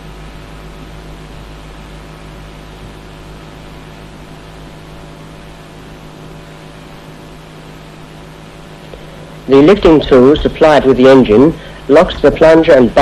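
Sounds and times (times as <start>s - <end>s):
constant hiss: 0.0s - 13.0s
steady low hum: 0.0s - 13.0s.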